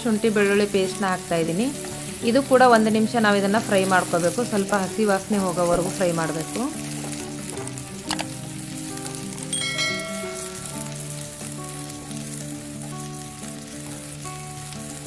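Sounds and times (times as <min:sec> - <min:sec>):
oil sizzling in a pan: 0:00.0 - 0:15.0
soft background music: 0:00.0 - 0:15.0.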